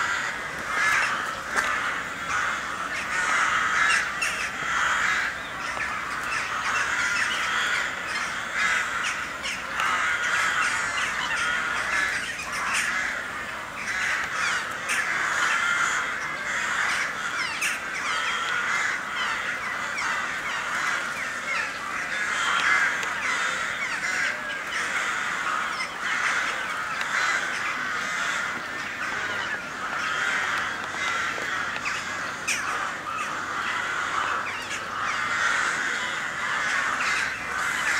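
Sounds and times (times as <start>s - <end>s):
crows cawing: 0.0s - 37.9s.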